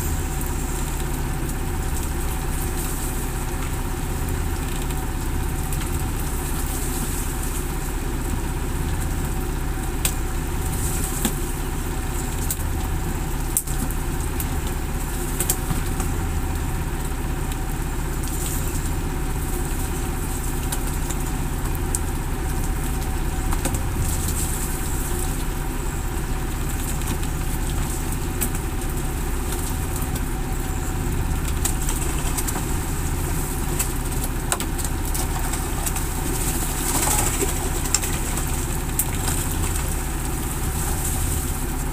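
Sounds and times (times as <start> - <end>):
boat engine idling: 0.0 - 41.9.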